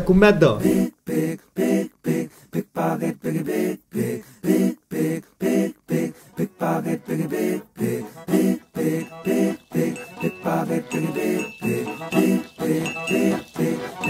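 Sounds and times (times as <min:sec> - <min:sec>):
rhythmic a cappella vocal chant: 0:00.4 - 0:14.0.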